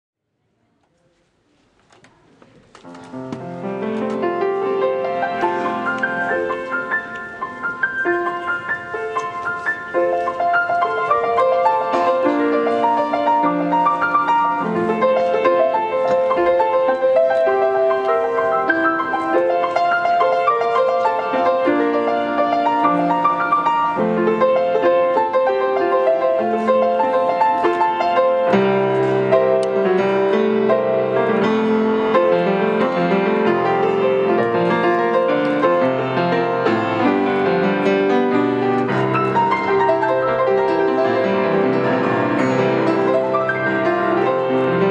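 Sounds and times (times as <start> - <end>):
solo piano hymn: 2.1 - 44.9.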